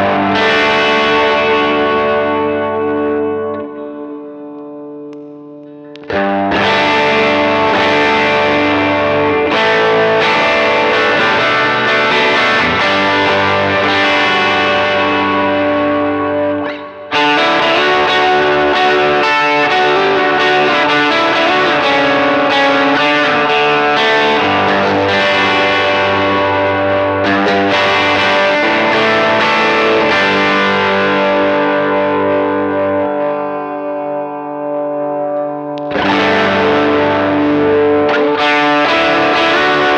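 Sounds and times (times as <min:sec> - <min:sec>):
distorted electric guitar chords: 0:00.0 - 0:39.9.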